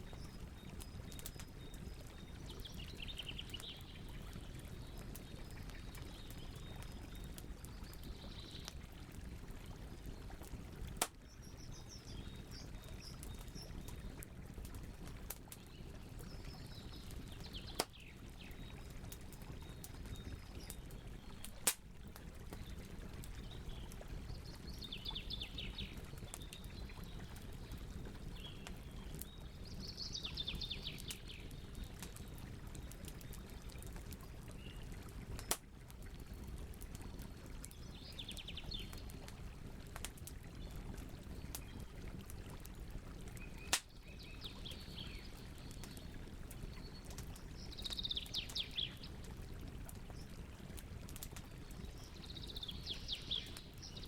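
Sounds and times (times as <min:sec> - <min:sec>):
wood fire crackling: 0:00.0 - 0:30.0, 0:30.8 - 0:38.2, 0:38.8 - 0:44.2, 0:45.0 - 0:52.2.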